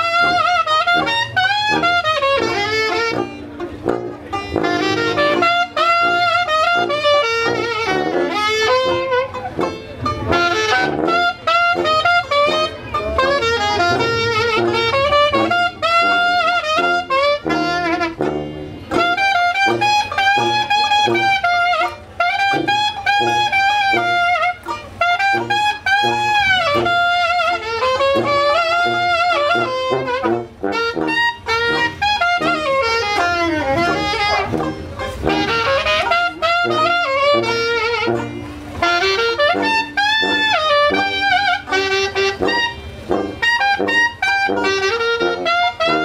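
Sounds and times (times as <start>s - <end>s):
clarinet: 0.0s - 46.0s
saxophone: 0.0s - 46.0s
sousaphone bass: 0.0s - 46.0s
strummed banjo: 0.0s - 46.0s.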